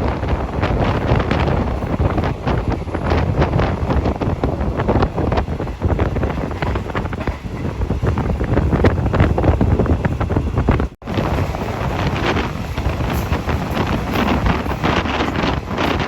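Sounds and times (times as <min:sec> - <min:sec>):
wind buffeting a microphone: 0:00.0 - 0:16.0.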